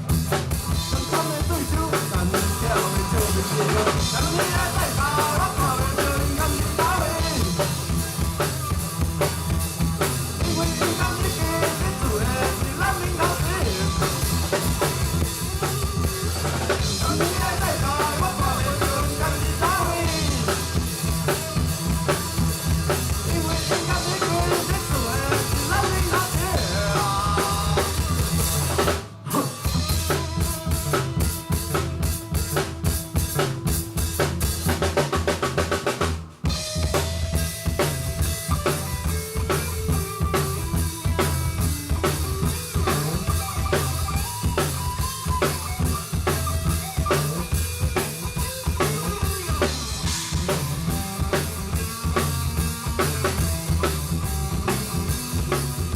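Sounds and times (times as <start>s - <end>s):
drum kit: 0.0s - 55.9s
live band music: 0.0s - 55.9s.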